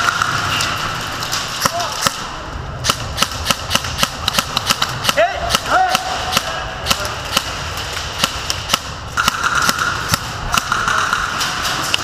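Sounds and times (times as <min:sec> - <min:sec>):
airsoft guns firing: 0:00.0 - 0:12.0.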